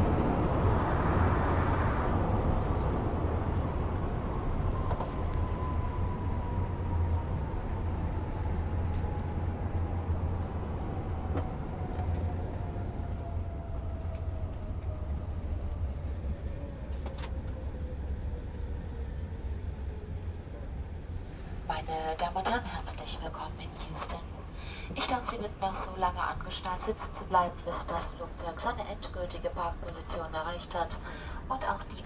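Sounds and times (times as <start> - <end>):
jet engines whining down: 0.0 - 19.8, 21.7 - 32.0
airliner cabin rumble: 0.0 - 32.0.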